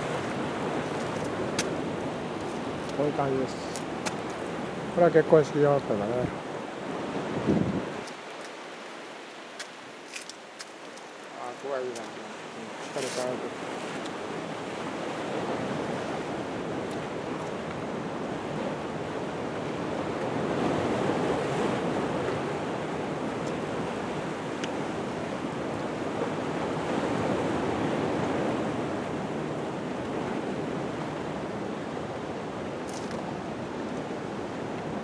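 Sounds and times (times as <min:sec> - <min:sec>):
sea waves washing in: 0:00.0 - 0:35.0.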